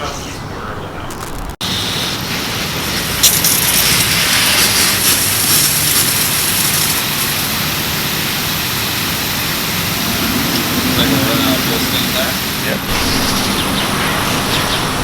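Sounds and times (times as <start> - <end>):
sprinklers spraying water: 1.4 - 15.0.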